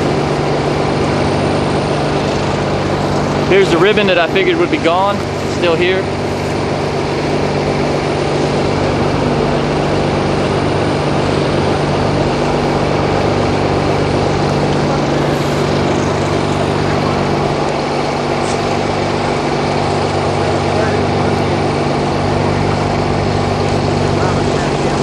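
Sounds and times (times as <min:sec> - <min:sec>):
heavy engine idling: 0:00.0 - 0:25.0.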